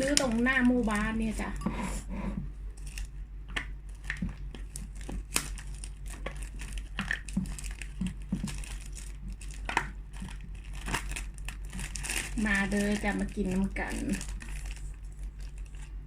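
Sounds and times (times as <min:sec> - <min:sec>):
plastic bags crinkling: 0:00.0 - 0:01.6, 0:02.7 - 0:03.2, 0:03.8 - 0:16.0
steady low hum: 0:00.0 - 0:16.0.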